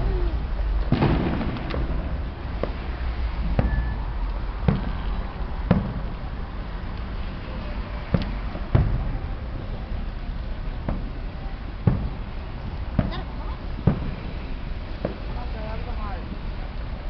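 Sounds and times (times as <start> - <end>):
fireworks bangs and pops: 0.6 - 17.0.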